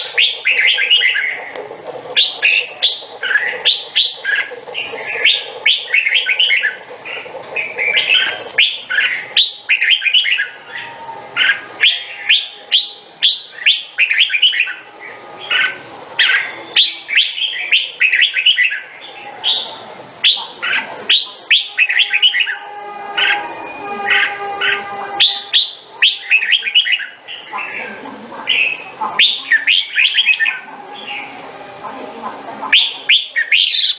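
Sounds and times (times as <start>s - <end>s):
bird singing bright chirps: 0.0s - 1.5s, 2.2s - 22.6s, 23.2s - 27.9s, 28.5s - 31.4s, 32.7s - 33.9s.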